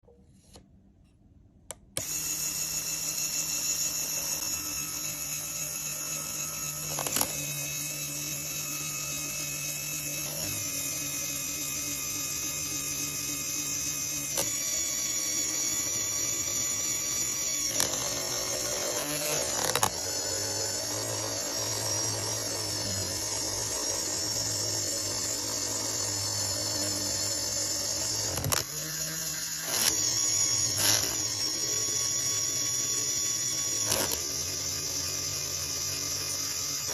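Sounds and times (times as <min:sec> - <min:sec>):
motor-driven plastic gears whining: 0:01.8 - 0:36.9.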